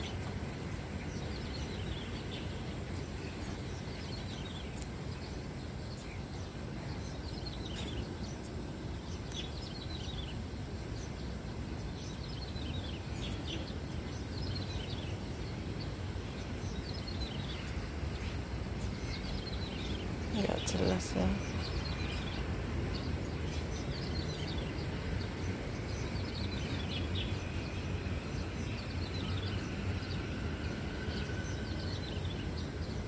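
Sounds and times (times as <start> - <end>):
low outdoor rumble: 0.0 - 33.0
small songbirds chirping: 0.0 - 33.0.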